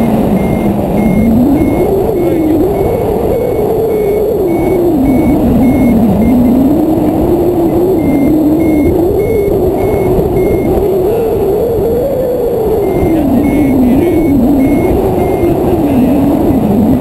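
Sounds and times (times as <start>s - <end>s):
variometer beeping: 0.0s - 17.0s
wind rushing over microphone: 0.0s - 17.0s.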